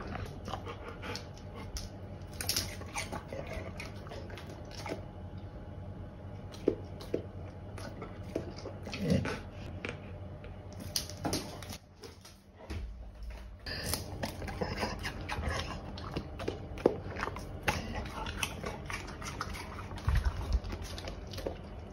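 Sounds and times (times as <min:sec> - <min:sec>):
dog chewing fruit crunching: 0:00.0 - 0:11.9, 0:13.3 - 0:21.9.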